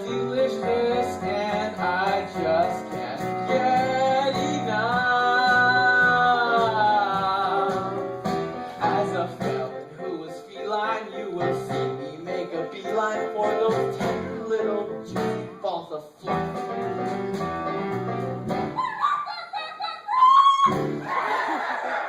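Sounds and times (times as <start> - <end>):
person singing show tune: 0.0 - 16.6, 18.8 - 20.9
instrumental accompaniment: 0.0 - 18.9, 20.7 - 21.1.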